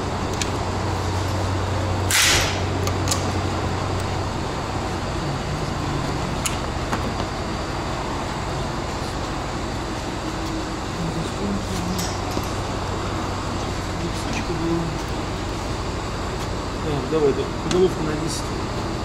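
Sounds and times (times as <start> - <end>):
low hum: 0.0 - 17.7
workshop noise: 0.0 - 19.0.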